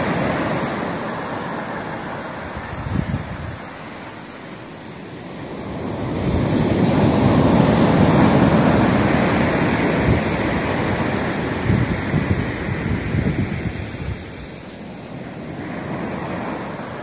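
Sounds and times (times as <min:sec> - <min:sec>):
wind buffeting microphone: 0:00.0 - 0:03.9, 0:05.4 - 0:17.0
wave breaking on beach: 0:00.0 - 0:17.0.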